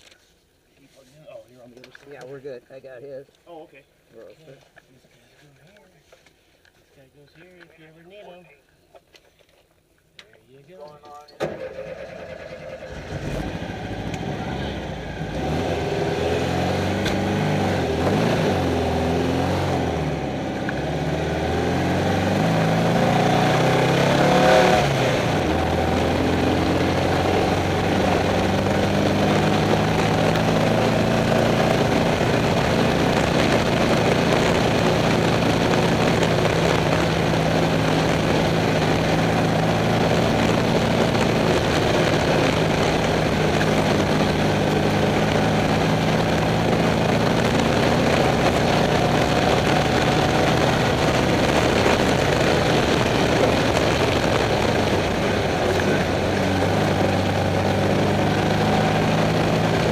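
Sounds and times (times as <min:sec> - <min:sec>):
race car engine revving: 0:11.4 - 0:59.9.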